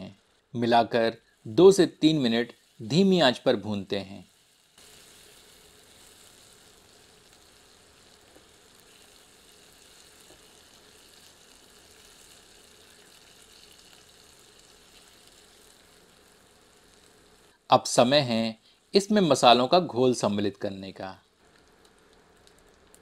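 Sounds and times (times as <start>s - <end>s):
onions sizzling in oil: 0.1s - 23.0s.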